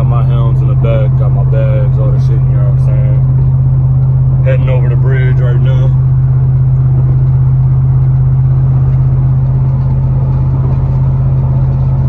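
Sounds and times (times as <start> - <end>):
vehicle cruising interior drone: 0.0 - 12.0.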